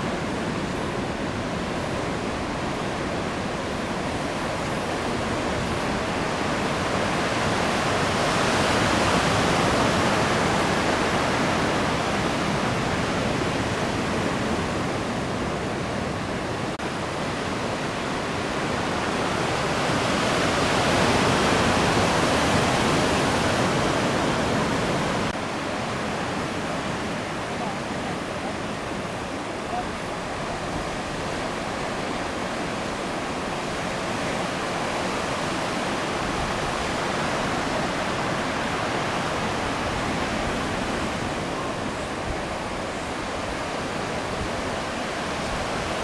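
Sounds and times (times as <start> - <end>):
heavy surf breaking waves: 0.0 - 46.0.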